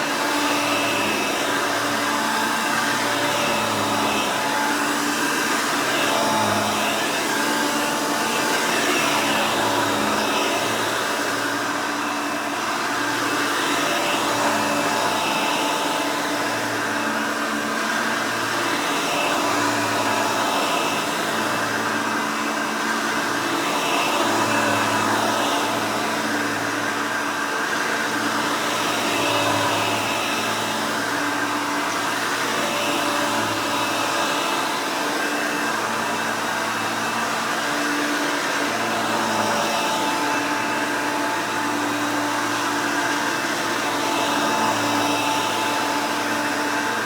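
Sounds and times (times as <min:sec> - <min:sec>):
vacuum cleaner running: 0:00.0 - 0:47.0.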